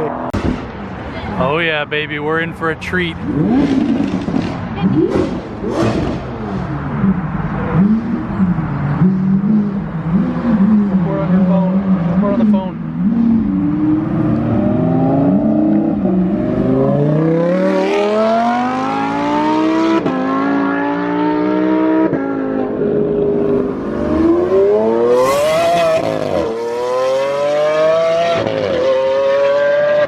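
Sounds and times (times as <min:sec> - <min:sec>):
car engine accelerating hard: 0:03.2 - 0:30.0.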